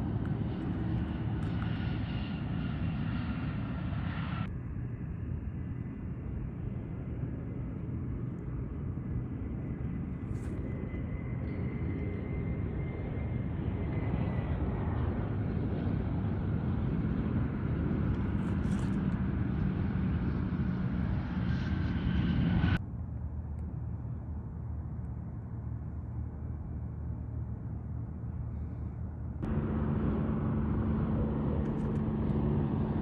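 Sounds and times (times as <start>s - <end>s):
airplane engines running: 0.0s - 33.0s
faint high whine: 0.0s - 33.0s.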